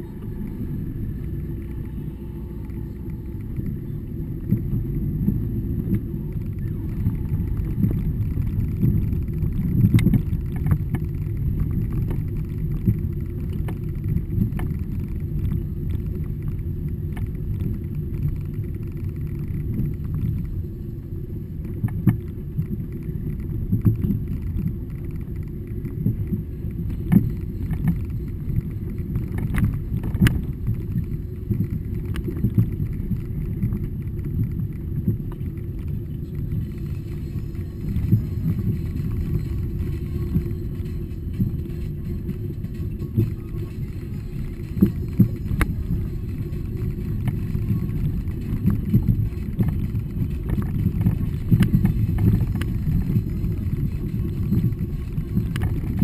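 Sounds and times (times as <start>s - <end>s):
car rumbling on dirt track: 0.0s - 56.0s.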